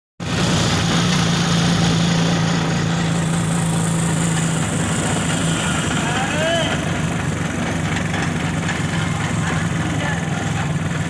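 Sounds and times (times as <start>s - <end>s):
vehicle engine running steadily: 0.2s - 11.0s.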